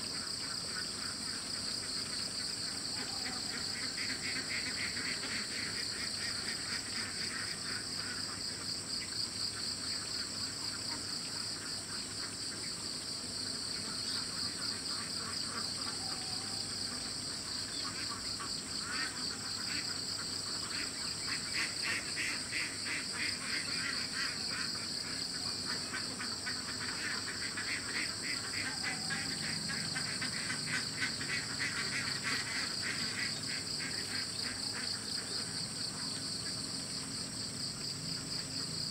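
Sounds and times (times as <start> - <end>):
low pulsing insect chorus: 0.0 - 38.9.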